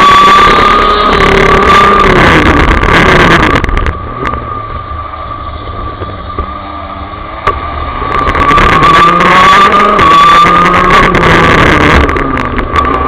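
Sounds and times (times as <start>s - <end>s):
kart engine at racing speed: 0.0s - 13.0s.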